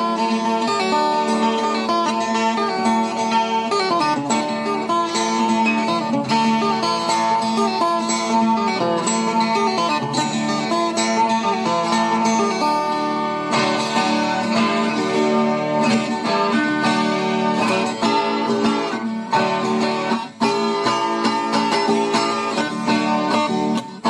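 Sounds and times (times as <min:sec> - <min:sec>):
plucked folk guitar music: 0:00.0 - 0:24.0.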